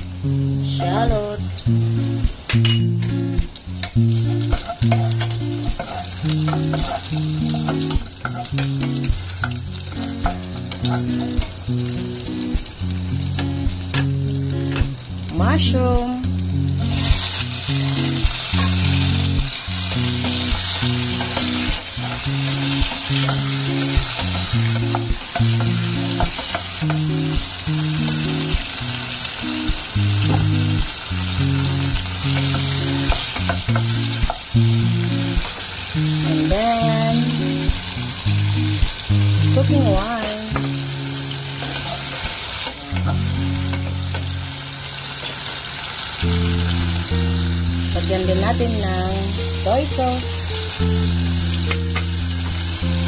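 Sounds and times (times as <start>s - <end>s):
food sizzling in hot oil: 0.0s - 53.0s.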